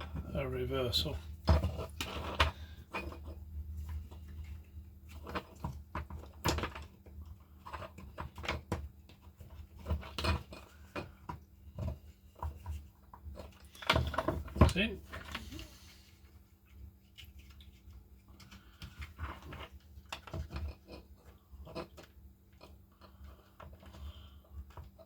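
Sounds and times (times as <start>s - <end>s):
small clicks and knocks of parts: 1.0s - 15.6s, 16.6s - 25.0s.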